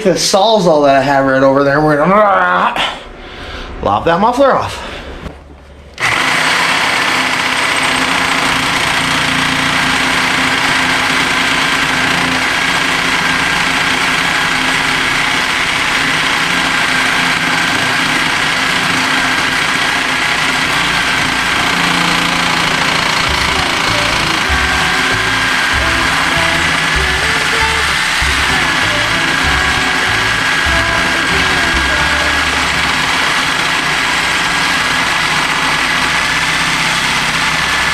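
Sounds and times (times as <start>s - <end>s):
reciprocating saw cutting metal pipe: 6.0s - 37.9s.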